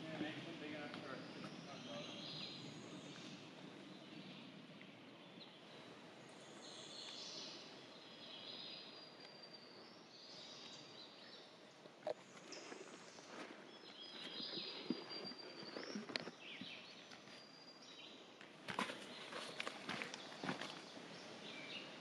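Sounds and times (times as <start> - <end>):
faint distant birdsong: 0.0 - 22.0.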